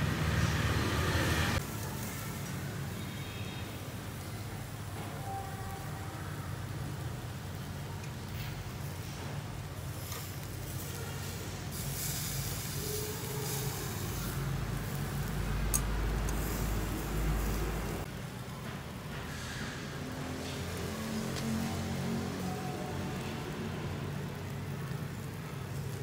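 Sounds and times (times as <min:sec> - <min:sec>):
meat sizzling on a grill: 0:00.0 - 0:26.0.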